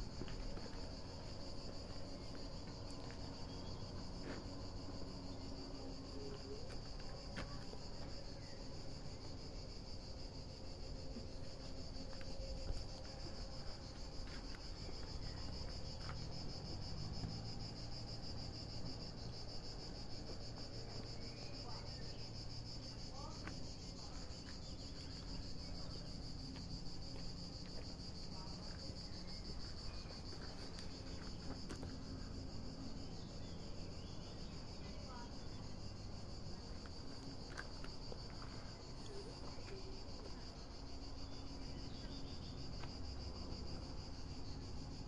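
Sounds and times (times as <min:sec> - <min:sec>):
cicadas buzzing: 0:00.0 - 0:45.0.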